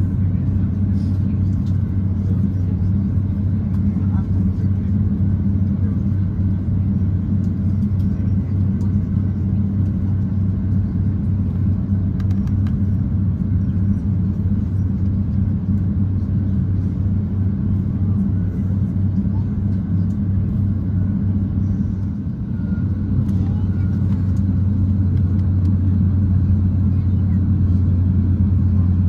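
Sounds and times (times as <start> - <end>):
aircraft cabin engine rumble: 0.0 - 29.0
constant low hum: 0.0 - 29.0.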